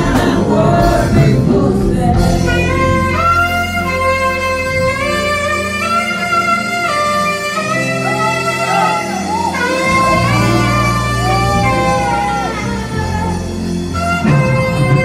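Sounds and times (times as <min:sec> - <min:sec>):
bass: 0:00.0 - 0:15.0
sustained backing chords: 0:00.0 - 0:15.0
saxophone long held notes: 0:02.1 - 0:15.0.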